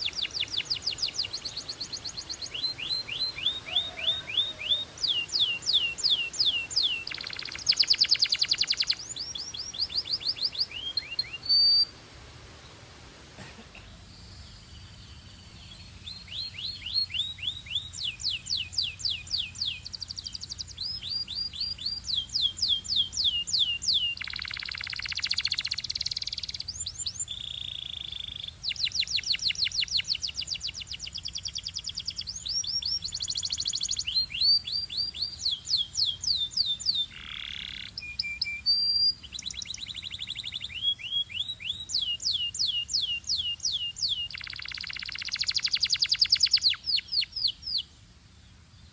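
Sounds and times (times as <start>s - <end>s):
canary singing: 0.0s - 12.0s, 15.6s - 47.9s.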